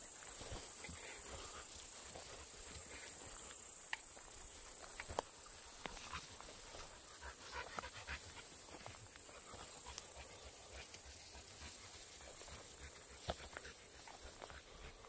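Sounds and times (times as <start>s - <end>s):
footsteps through brush: 0.0s - 15.0s.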